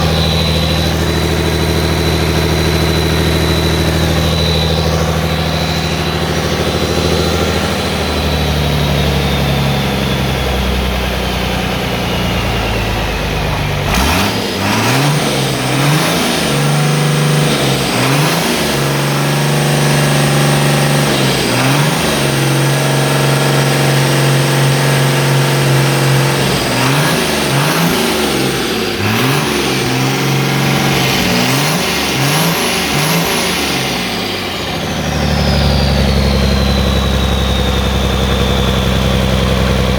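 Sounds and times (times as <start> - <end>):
diesel engine revving: 0.0 - 39.9
high engine whistle: 0.0 - 39.9.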